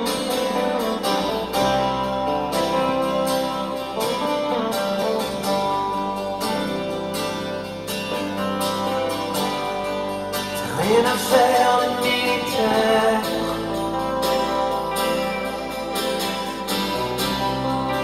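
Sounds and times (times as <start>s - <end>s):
acoustic guitar strumming: 0.0s - 18.0s
band backing: 0.0s - 18.0s.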